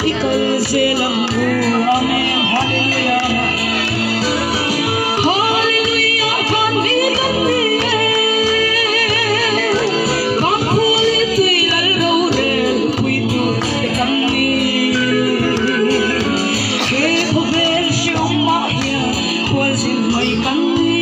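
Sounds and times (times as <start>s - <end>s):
amplified backing music with beat: 0.0s - 21.0s
woman singing with vibrato: 0.0s - 21.0s.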